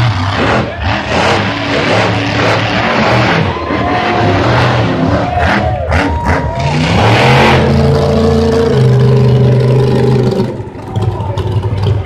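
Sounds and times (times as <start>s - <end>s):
monster truck engines revving: 0.0s - 12.0s.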